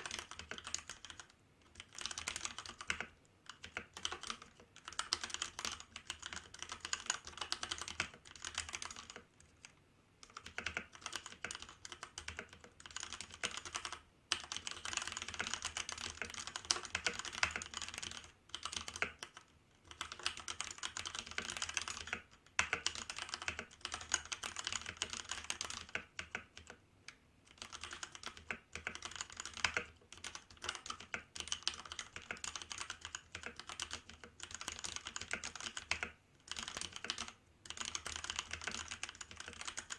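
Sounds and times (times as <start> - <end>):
mechanical keyboard typing: 0.0 - 26.8, 27.5 - 39.9.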